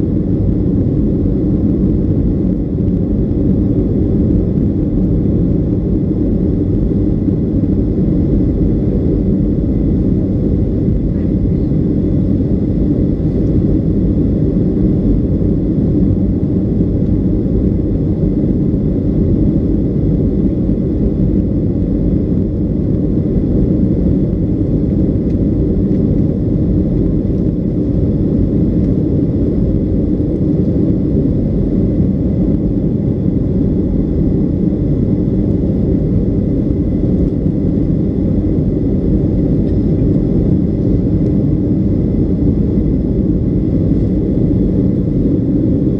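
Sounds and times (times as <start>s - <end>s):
jet engines rumbling: 0.0s - 45.9s.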